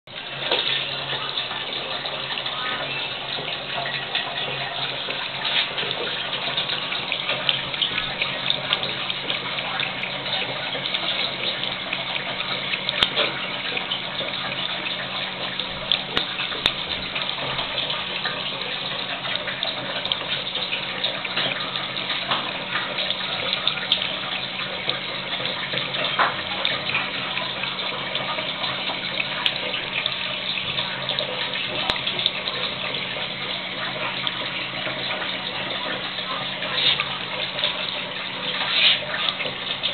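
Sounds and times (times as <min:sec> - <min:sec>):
tap water running into basin: 0:00.1 - 0:39.9.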